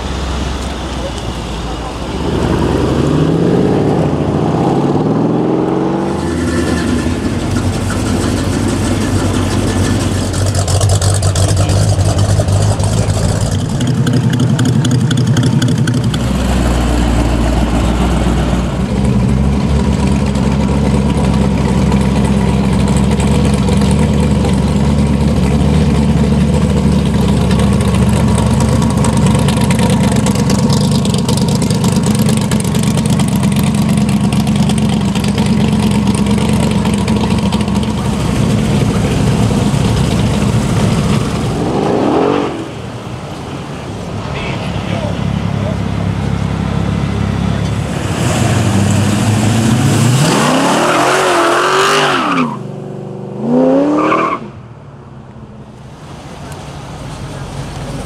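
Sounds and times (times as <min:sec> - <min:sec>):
car engine accelerating away: 0:00.0 - 0:44.1, 0:44.9 - 0:54.6
car engines driving past: 0:00.0 - 0:58.0
pickup engine rumbling at low revs: 0:00.0 - 0:58.0.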